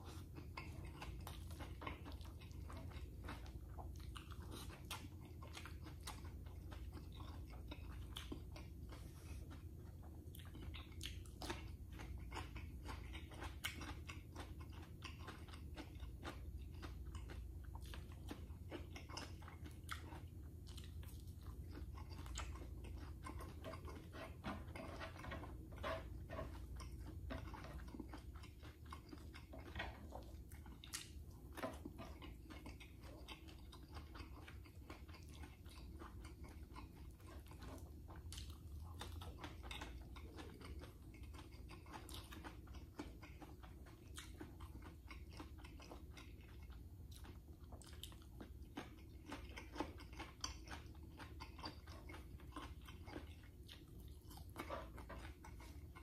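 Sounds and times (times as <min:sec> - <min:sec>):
low steady hum: 0:00.0 - 0:56.0
man chewing and biting: 0:00.0 - 0:56.0.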